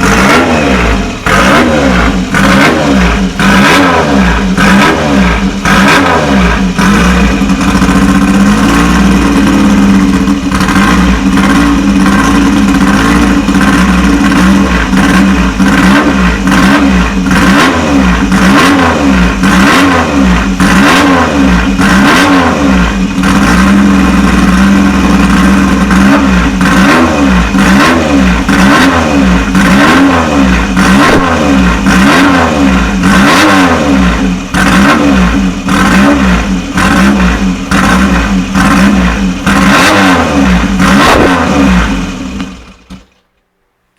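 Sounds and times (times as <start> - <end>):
race engine revving: 0.0 - 43.0.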